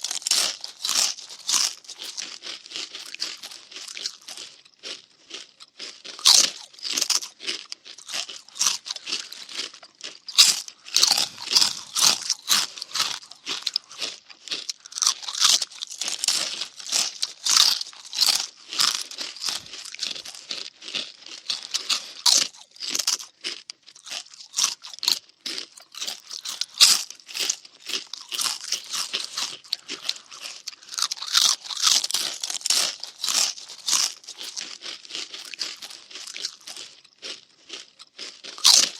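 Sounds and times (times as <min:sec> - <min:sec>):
cartoon crunchy munching: 0:00.0 - 0:38.9.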